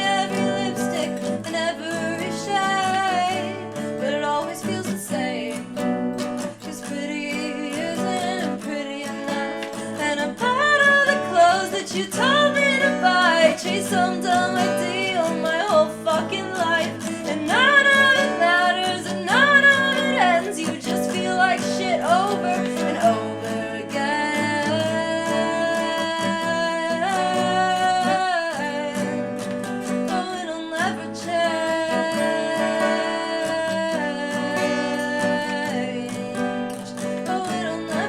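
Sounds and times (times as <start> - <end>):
acoustic guitar: 0.0 - 38.0
person singing: 0.0 - 38.0.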